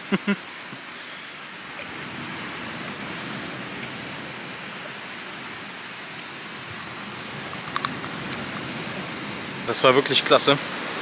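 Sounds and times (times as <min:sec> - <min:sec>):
ocean surf hiss: 0:00.0 - 0:11.0.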